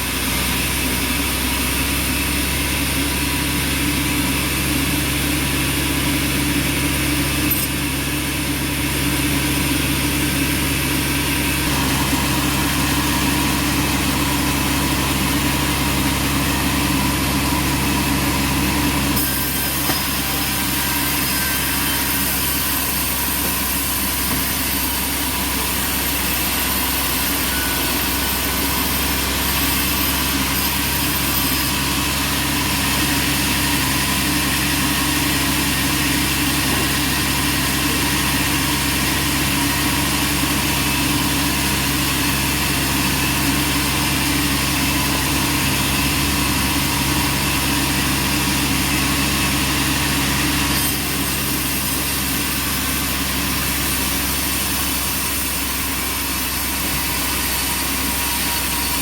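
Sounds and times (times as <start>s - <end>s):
sawmill motor hum: 0.0s - 59.0s.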